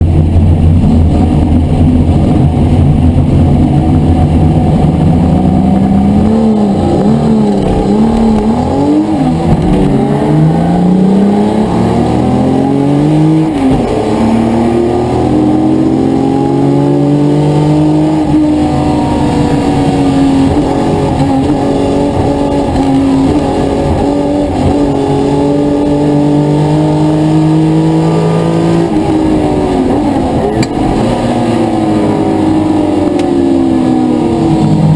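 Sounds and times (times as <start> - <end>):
car engine running hard: 0.0 - 34.9.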